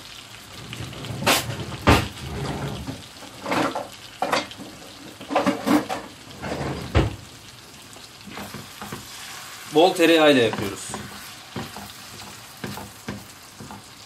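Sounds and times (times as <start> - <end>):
liver sizzling in butter: 0.0 - 14.0.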